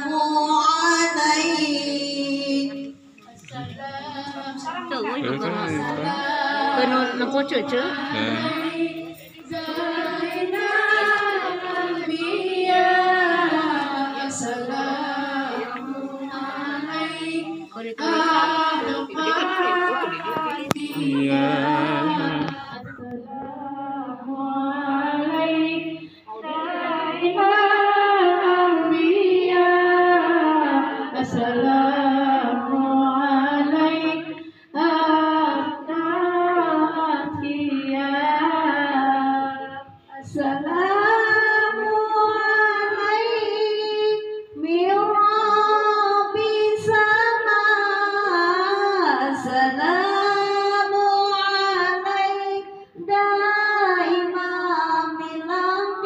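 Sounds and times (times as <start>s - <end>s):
woman chanting melodically: 0.0s - 56.0s.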